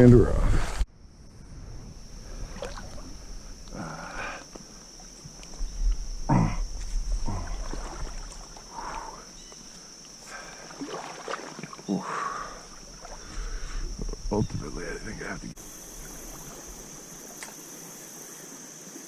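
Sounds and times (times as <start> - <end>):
steady high hiss: 0.0 - 19.0
stream water splashing: 2.2 - 19.0.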